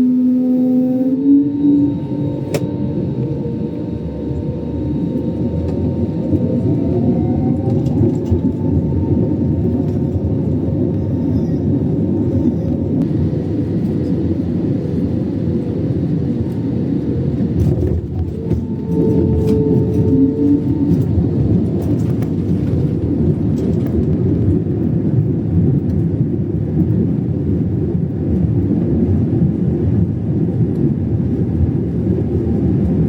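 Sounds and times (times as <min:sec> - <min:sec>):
faint humming tones: 0:00.0 - 0:25.2, 0:28.5 - 0:33.0
aircraft cabin rumble: 0:00.0 - 0:33.0.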